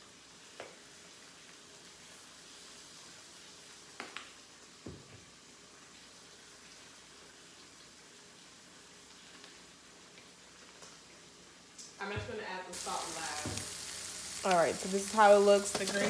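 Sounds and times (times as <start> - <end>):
fish frying in oil: 0.0 - 12.0, 12.7 - 16.0.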